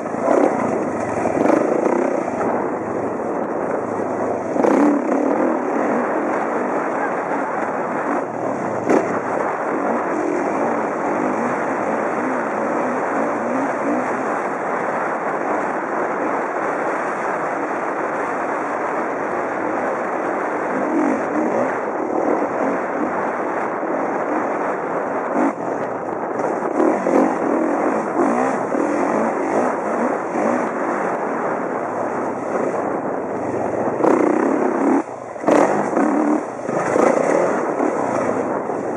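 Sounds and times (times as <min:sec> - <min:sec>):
motorcycle engine running under load: 0:00.0 - 0:38.9
wind rush: 0:00.0 - 0:38.9.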